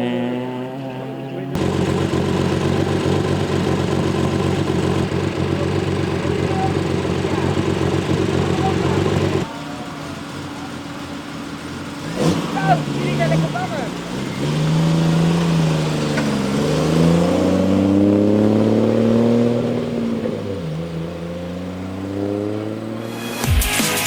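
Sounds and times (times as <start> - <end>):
rally car engine running rough: 0.0 - 23.2.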